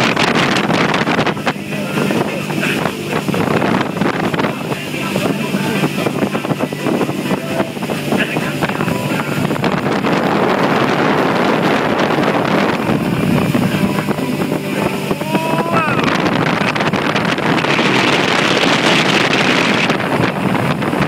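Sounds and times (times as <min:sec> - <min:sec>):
motorboat engine running: 0:00.0 - 0:21.0
rushing water: 0:00.0 - 0:21.0
wind buffeting microphone: 0:00.0 - 0:21.0.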